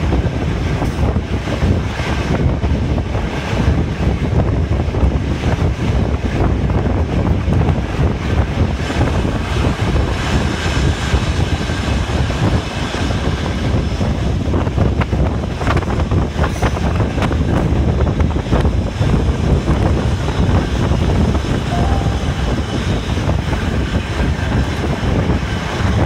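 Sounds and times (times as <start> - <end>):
train running noise: 0.0 - 26.0
wind rushing over microphone: 0.0 - 26.0.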